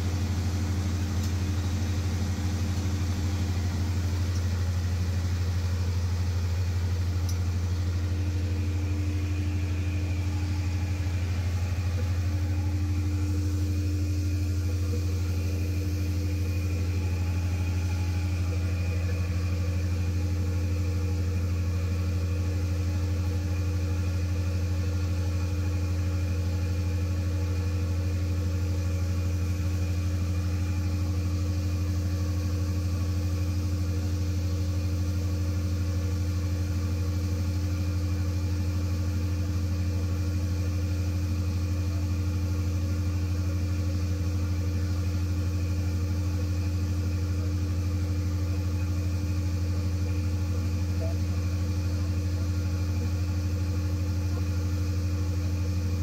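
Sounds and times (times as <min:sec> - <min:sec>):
generator engine droning: 0:00.0 - 0:56.0.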